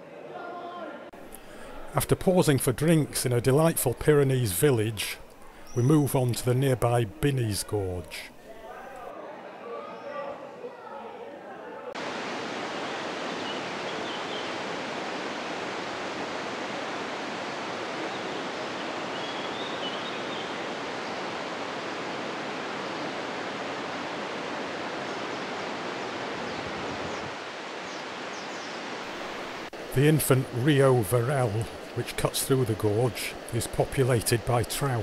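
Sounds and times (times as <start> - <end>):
mountain river rushing: 1.2 - 9.1, 11.9 - 35.0.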